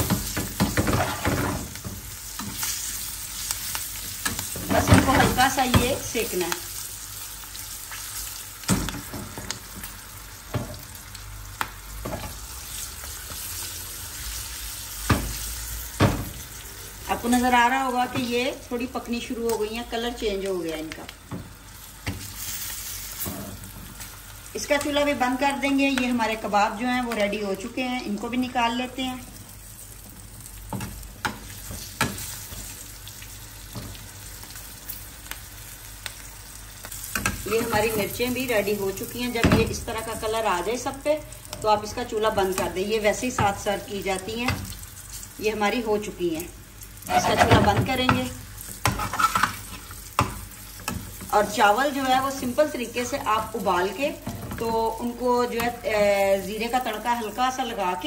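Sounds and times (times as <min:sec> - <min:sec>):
hot oil sizzling: 0:00.0 - 0:58.0.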